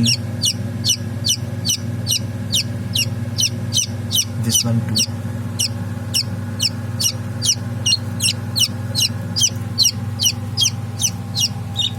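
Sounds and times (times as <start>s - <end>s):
chick peeping: 0.0s - 11.9s
low hum: 0.0s - 11.9s.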